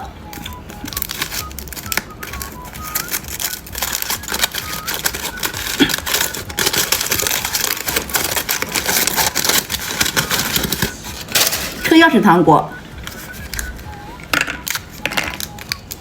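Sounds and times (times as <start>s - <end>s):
candy crunching while eaten: 0.0s - 12.2s, 13.0s - 16.0s.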